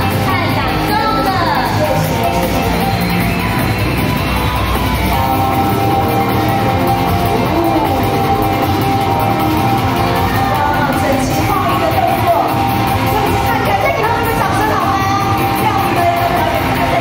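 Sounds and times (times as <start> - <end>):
dance music with guitar and drums: 0.0 - 17.0.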